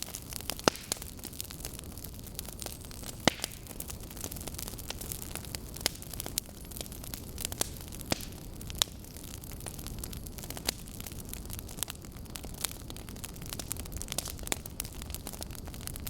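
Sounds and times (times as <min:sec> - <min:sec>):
burning logs crackling: 0:00.0 - 0:16.0
flames rushing: 0:00.0 - 0:16.0.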